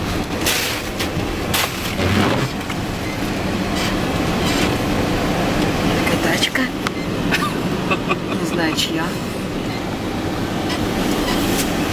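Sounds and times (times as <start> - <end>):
car rumbling on rough road: 0.0 - 11.9.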